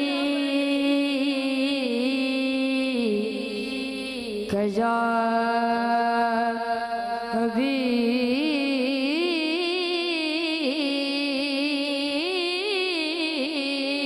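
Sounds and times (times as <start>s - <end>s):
boy singing with vibrato: 0.0s - 14.0s.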